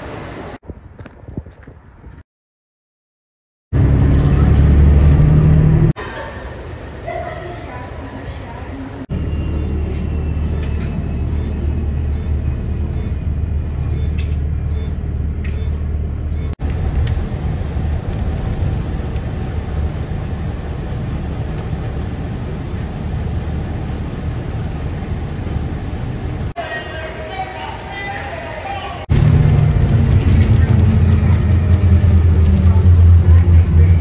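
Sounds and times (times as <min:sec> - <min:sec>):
engine and traffic rumble: 0:03.7 - 0:34.0.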